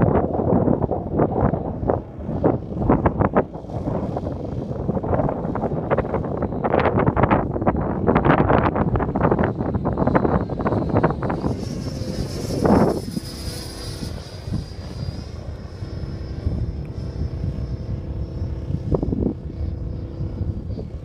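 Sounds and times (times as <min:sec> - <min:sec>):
model aircraft motor whine: 0:00.0 - 0:21.0
wind rumble on microphone: 0:00.0 - 0:21.0.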